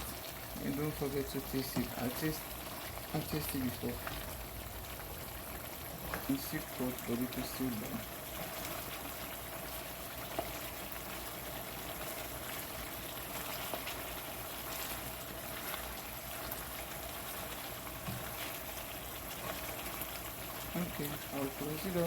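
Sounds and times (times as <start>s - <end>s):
pot boiling with bubbling hiss: 0.0s - 22.0s.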